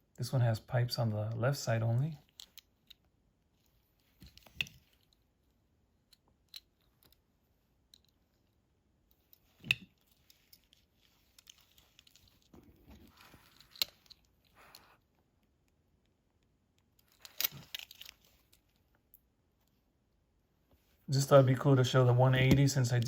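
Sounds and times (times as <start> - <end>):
soft rustling: 2.2 - 15.6, 16.8 - 23.0.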